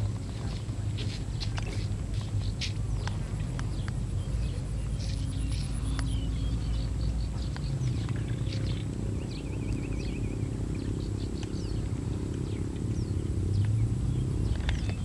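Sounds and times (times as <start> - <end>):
steady low rumble: 0.0 - 15.0
birds chirping and trilling: 0.2 - 15.0.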